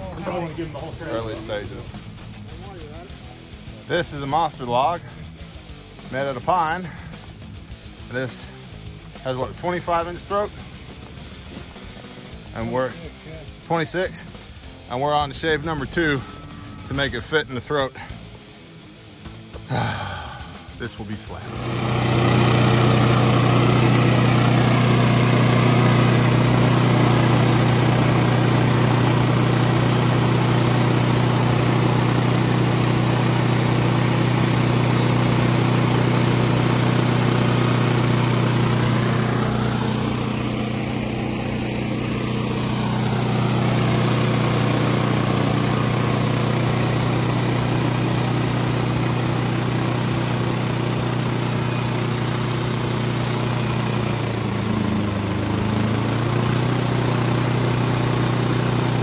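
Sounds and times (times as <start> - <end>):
band sawmill cutting log: 0.0 - 5.0, 6.0 - 18.2, 20.6 - 59.0.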